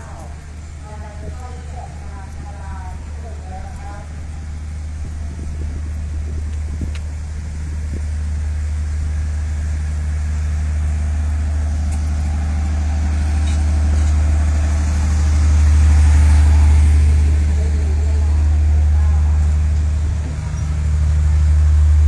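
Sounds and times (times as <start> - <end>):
diesel train hum: 0.0 - 22.0.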